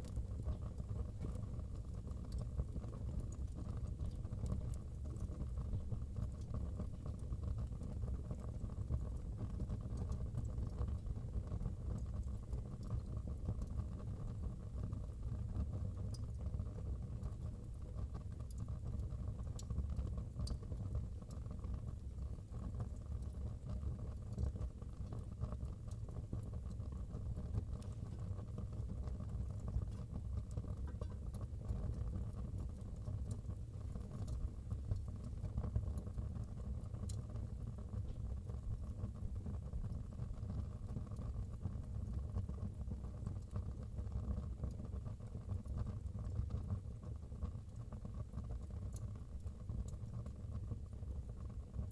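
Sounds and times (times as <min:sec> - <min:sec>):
faint fire crackles: 0:00.0 - 0:51.9
low rumble of fire flames: 0:00.0 - 0:51.9.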